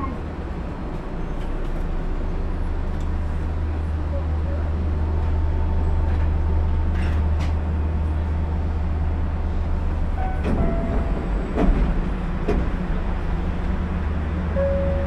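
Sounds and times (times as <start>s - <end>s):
monorail car low hum: 0.0s - 15.0s.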